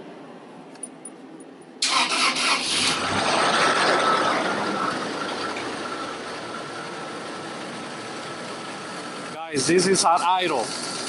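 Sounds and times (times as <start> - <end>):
engine starting and idling: 1.8 - 11.0.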